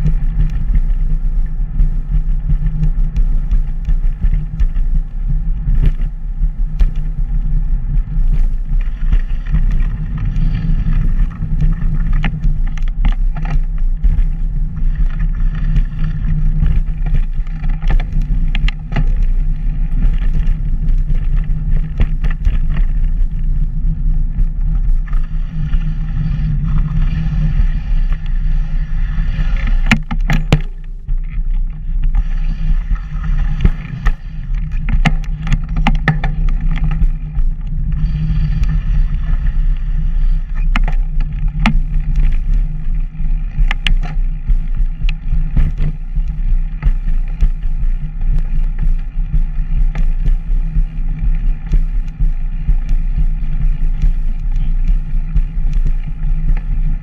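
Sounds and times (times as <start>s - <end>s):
camera clicks and rattles: 0.0s - 57.0s
wind buffeting microphone: 0.0s - 57.0s.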